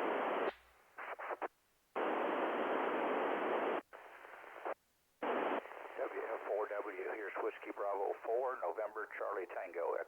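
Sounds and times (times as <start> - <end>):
radio static hiss: 0.0 - 10.0.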